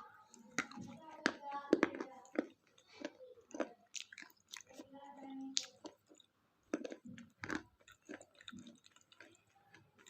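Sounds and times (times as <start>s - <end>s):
chewing and crunching wafer: 0.0s - 10.0s.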